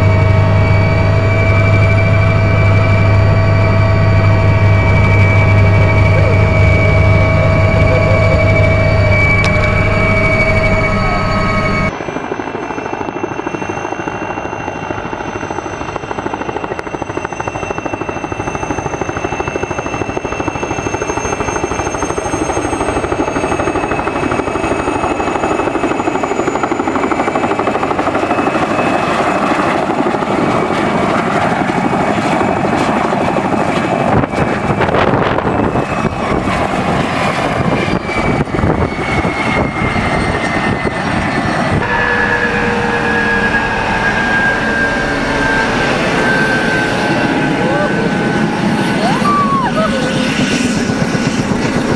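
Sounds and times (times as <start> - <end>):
turbine whine dropping in pitch: 0.0 - 29.2, 34.0 - 51.9
helicopter engines and rotor: 0.0 - 51.9.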